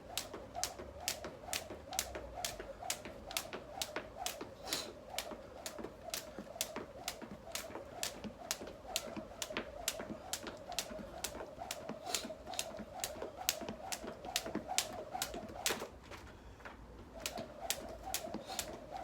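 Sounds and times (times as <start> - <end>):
jump rope slapping floor: 0.0 - 15.9, 17.2 - 19.0.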